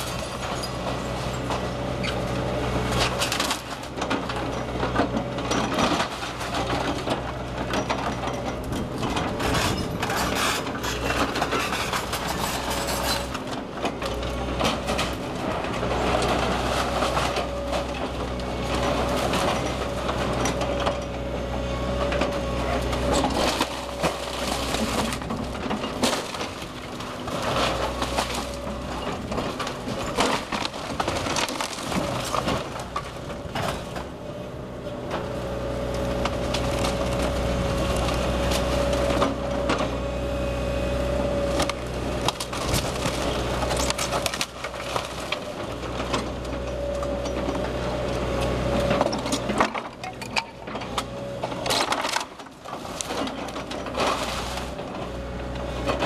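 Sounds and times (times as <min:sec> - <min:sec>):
crunching and splintering demolition: 0:00.0 - 0:56.0
excavator engine running: 0:00.0 - 0:56.0.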